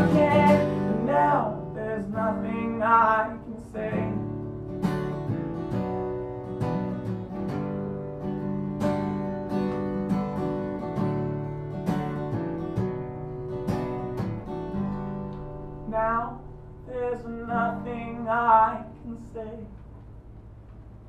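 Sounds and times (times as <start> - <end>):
acoustic guitar strumming chords: 0.0 - 19.9.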